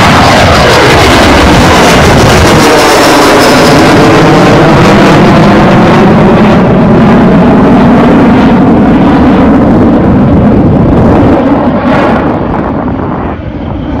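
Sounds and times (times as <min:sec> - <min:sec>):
jet flying overhead: 0:00.0 - 0:14.0.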